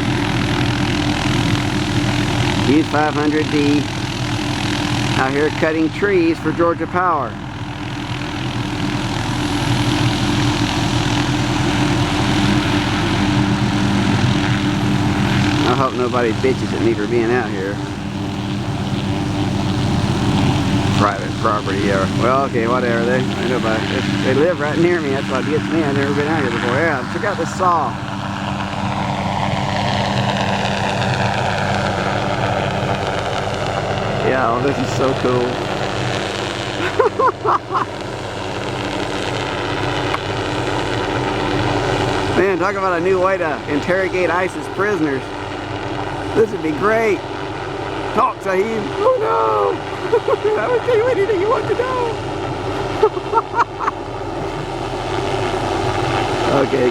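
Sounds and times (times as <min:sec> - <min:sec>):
helicopter engine and rotors: 0:00.0 - 0:56.9.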